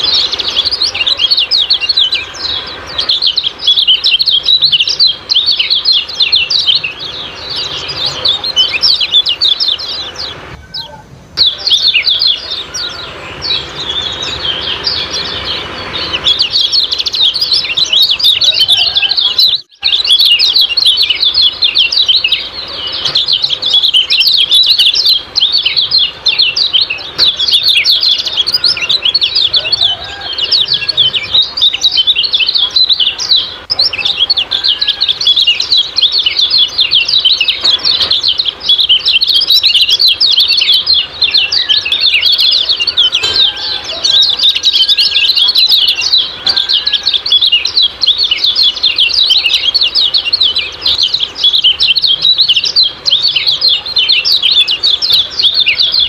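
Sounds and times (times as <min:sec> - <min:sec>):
bird giving quick high chirps: 0:00.0 - 0:56.0.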